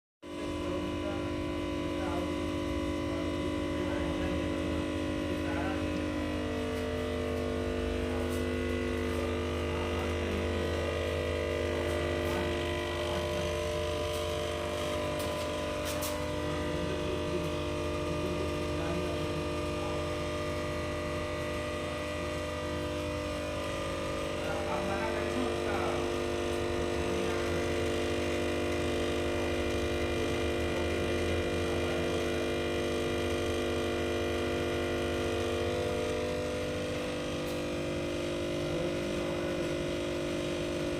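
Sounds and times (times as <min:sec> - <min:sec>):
voltage stabilizer humming: 0:00.2 - 0:40.9.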